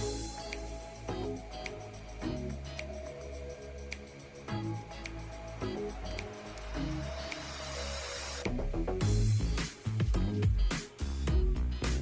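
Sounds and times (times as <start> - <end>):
background music with steady bass: 0.0 - 12.0.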